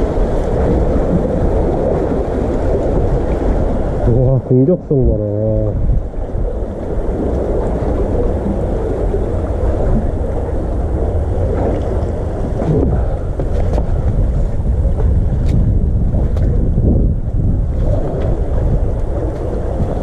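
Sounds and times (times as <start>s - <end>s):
sea water washing among blocks: 0.0s - 20.0s
wind buffeting microphone: 0.0s - 20.0s.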